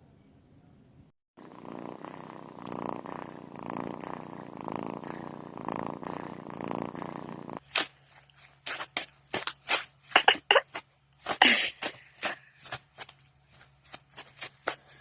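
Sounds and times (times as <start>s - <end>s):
cat purring: 1.4s - 15.0s.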